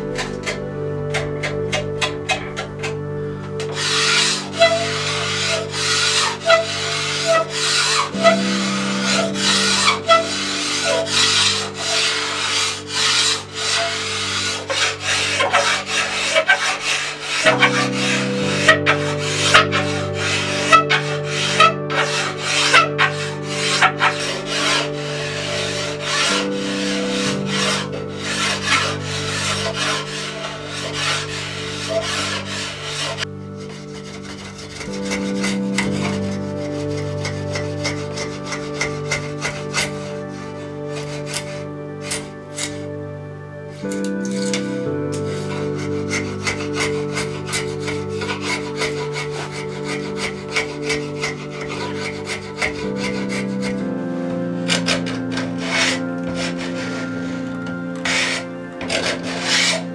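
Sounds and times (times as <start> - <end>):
rasp scraping wood: 0.0 - 42.9, 43.7 - 59.9
background music with sustained chords: 0.0 - 59.9.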